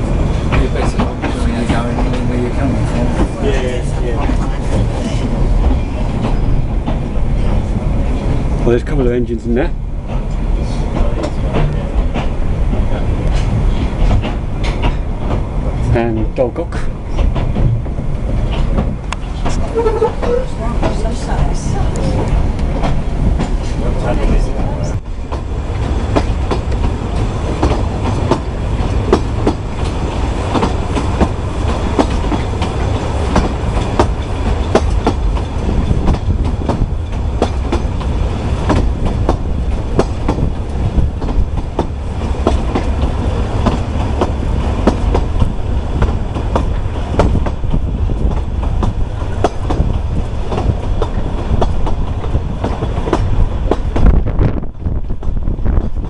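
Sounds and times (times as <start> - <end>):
wheels clicking over rail joints: 0.0 - 54.2
train carriage rumbling: 0.0 - 56.0.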